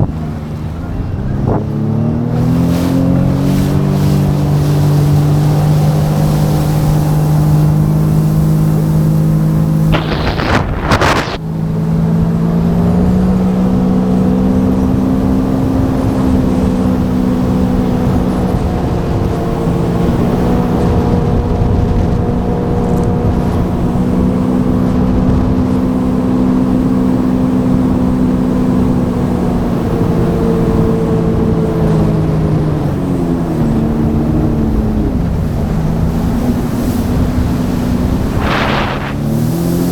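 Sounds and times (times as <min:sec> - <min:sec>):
jet ski engine running: 0:00.0 - 0:39.9
wind and water rushing: 0:01.4 - 0:39.9.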